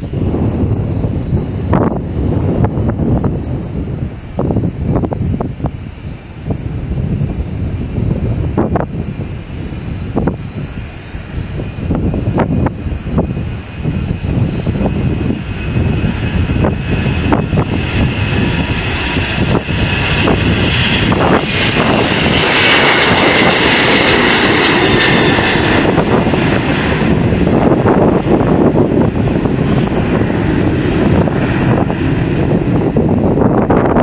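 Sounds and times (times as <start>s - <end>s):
jet engine rumble and whine: 0.0s - 34.0s.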